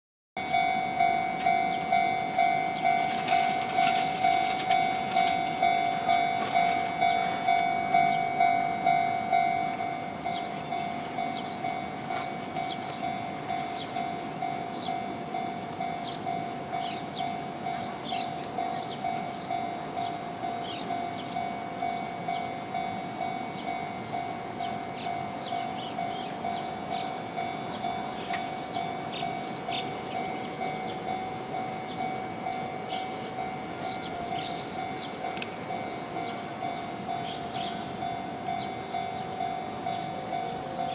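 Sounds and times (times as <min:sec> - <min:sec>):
level-crossing alarm dinging: 0:00.4 - 0:40.9.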